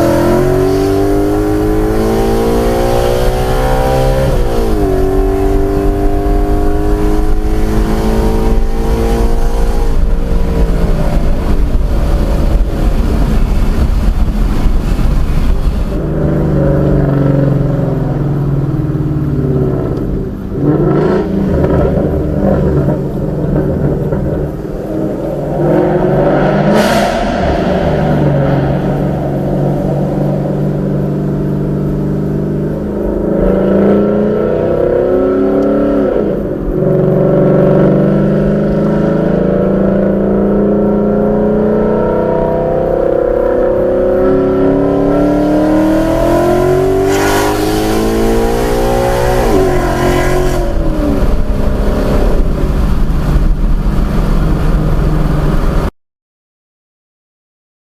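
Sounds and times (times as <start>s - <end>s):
car engine accelerating from cabin: 0.0s - 55.9s.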